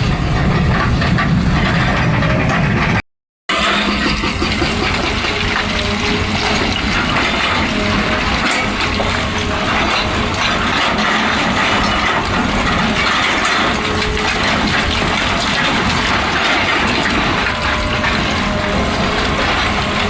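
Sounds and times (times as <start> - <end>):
hydraulic hammer clattering: 3.5 - 20.0.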